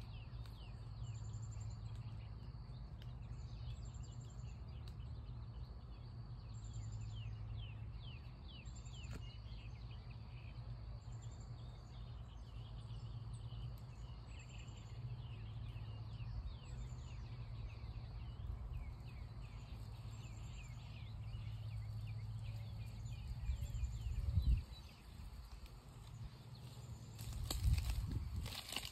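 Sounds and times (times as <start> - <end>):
low steady rumble: 0.0 - 28.9
small birds chirping: 0.0 - 28.9.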